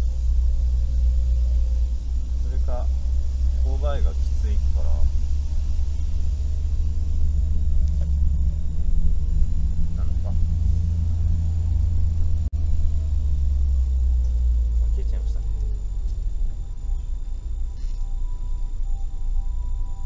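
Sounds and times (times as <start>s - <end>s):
van cabin engine and road rumble: 0.0s - 20.0s.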